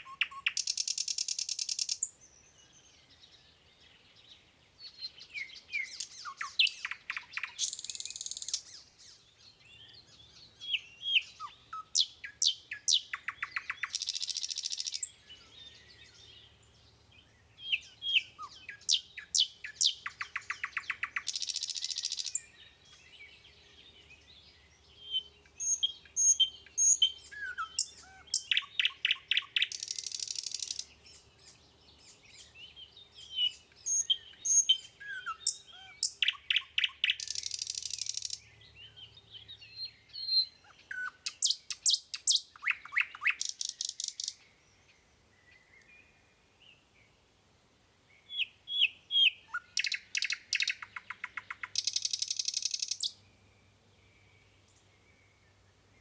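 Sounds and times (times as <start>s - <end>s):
small birds chirping and trilling: 0.0s - 47.3s, 48.0s - 56.0s.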